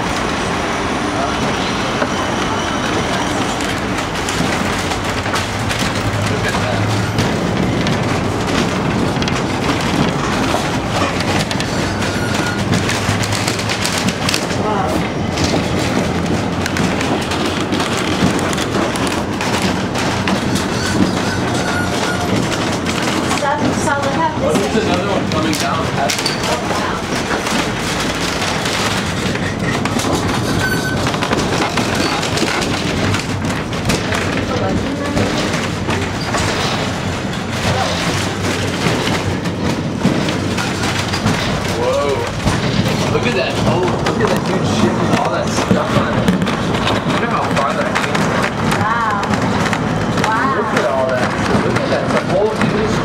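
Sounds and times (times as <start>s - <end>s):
funicular car rumbling on rails: 0.0s - 53.0s
vehicle running noise: 0.0s - 53.0s
rattles and clicks: 2.9s - 53.0s.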